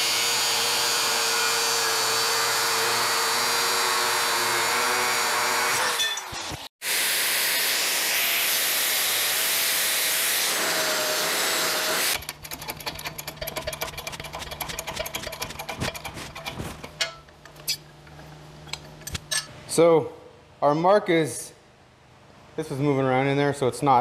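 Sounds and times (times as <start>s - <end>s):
angle grinder grinding steel: 0.0s - 19.5s.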